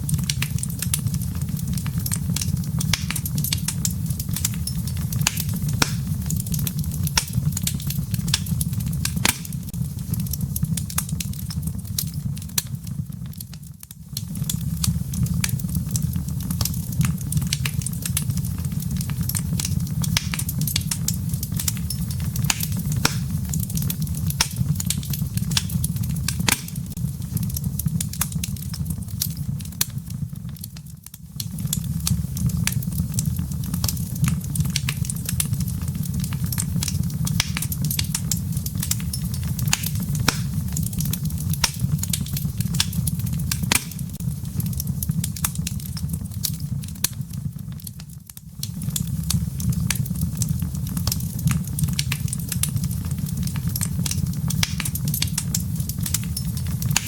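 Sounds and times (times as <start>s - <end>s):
fire crackling pops: 0.0s - 57.0s
low rumble of flames: 0.0s - 57.0s.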